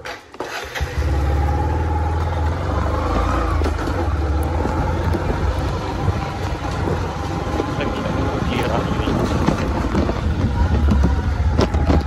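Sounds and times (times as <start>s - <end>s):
motorcycle engine running: 0.8s - 12.0s.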